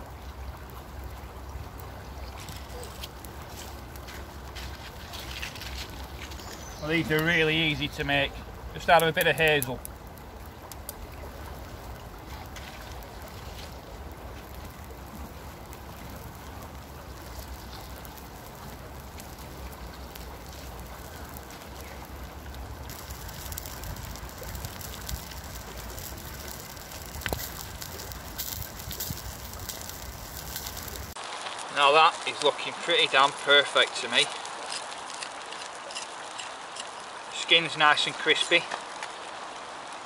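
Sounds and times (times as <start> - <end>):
charcoal ticking and crackling: 0.0 - 37.4, 38.0 - 39.5
river water rushing: 0.0 - 40.0.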